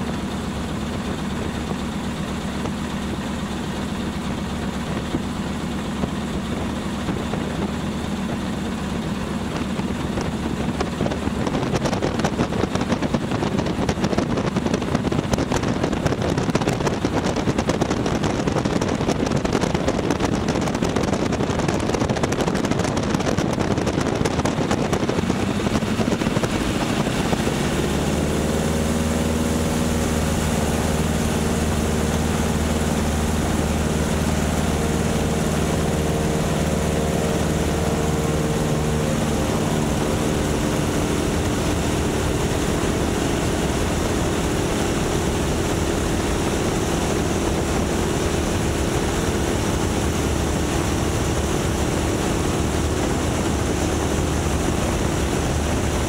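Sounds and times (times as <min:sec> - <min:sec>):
heavy wind noise: 0:00.0 - 0:56.0
propeller engine drone: 0:00.0 - 0:56.0.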